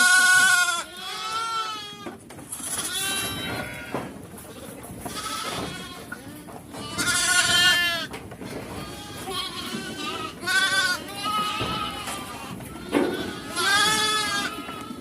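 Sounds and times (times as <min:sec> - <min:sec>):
goats bleating: 0:00.0 - 0:15.0.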